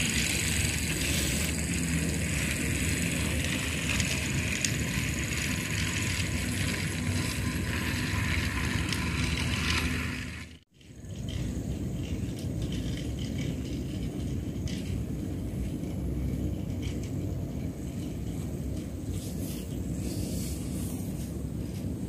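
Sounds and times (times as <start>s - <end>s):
toy train wheel rattle: 0.0s - 18.9s
toy train motor whirr: 0.0s - 21.9s.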